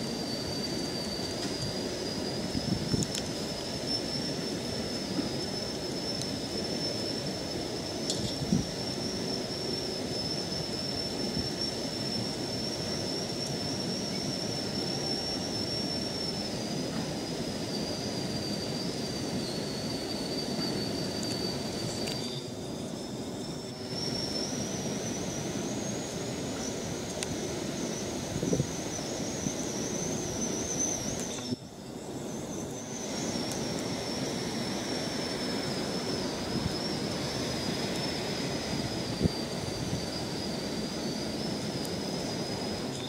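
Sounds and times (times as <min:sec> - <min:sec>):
high wavering whine: 0:00.0 - 0:43.0.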